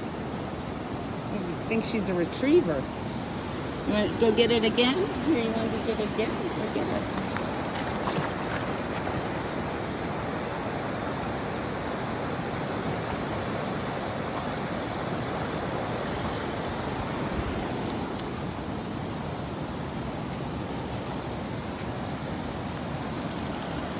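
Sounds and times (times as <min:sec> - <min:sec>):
river water rushing: 0:00.0 - 0:23.9.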